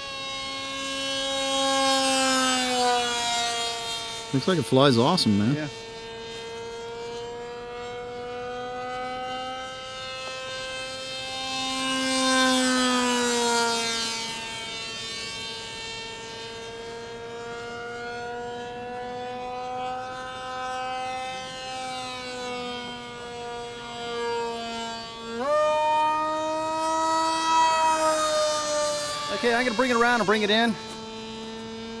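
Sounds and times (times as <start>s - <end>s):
rc plane electric motor whining: 0.0s - 32.0s.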